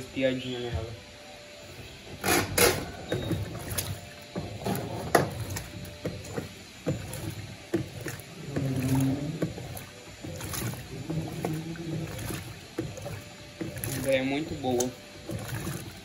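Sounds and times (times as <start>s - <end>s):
washing machine sloshing water: 1.5s - 16.0s
wet load slapping: 2.2s - 16.0s.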